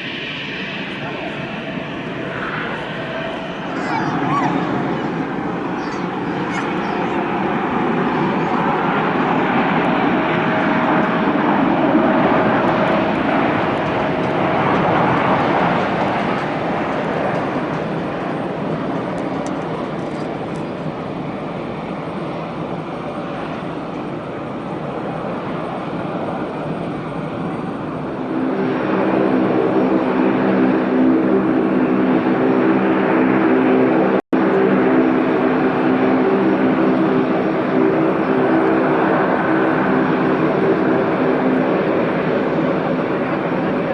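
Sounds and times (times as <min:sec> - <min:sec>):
aircraft hum with pitched tones: 0:00.0 - 0:43.9
jet engine rush: 0:00.0 - 0:43.9.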